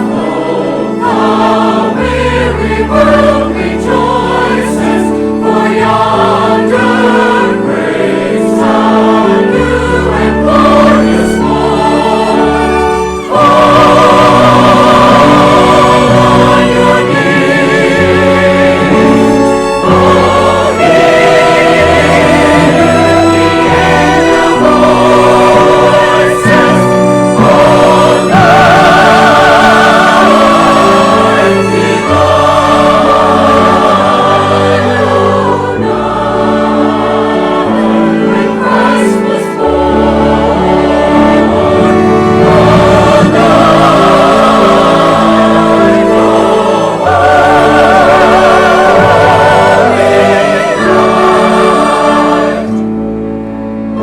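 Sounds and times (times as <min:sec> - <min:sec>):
choir singing: 0:00.0 - 0:54.0
orchestral accompaniment: 0:00.0 - 0:54.0.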